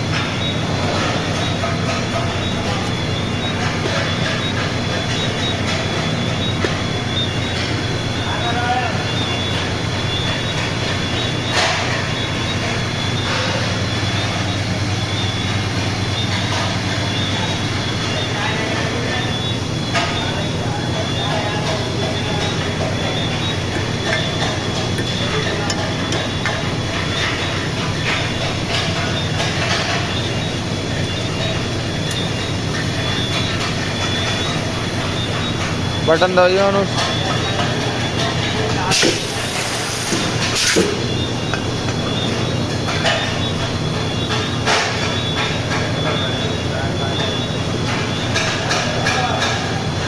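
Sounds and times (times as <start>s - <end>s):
continuous machine noise: 0.0s - 50.0s
electrical hum: 0.0s - 50.0s.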